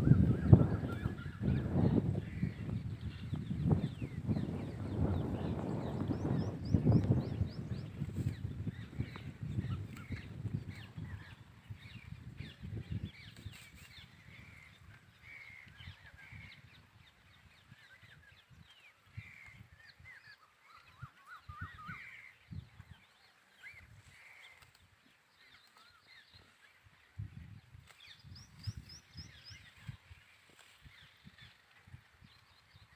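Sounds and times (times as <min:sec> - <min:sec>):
birds chirping and calling: 0:00.0 - 0:32.9.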